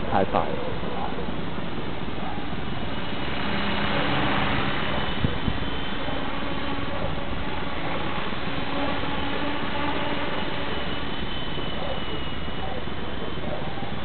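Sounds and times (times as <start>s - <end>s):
helicopter rotor and motor whine: 0.0s - 14.0s
rushing hiss: 1.6s - 13.4s.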